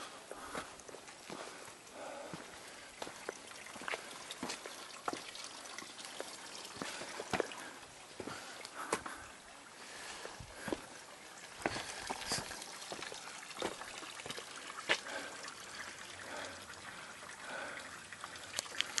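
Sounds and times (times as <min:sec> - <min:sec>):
water trickling: 0:00.0 - 0:19.0
sharp water drips: 0:00.2 - 0:19.0.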